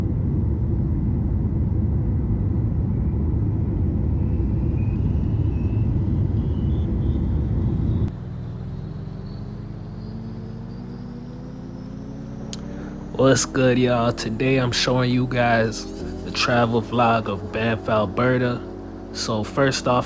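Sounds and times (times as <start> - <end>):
engine climbing in pitch: 0.0 - 20.0
faint whine rising in pitch: 0.0 - 20.0
vehicle rumble: 0.0 - 20.0.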